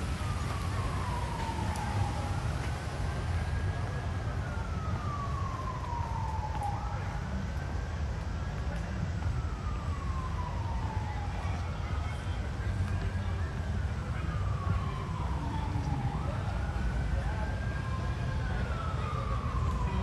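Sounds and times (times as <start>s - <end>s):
emergency vehicle siren wailing: 0.0s - 20.0s.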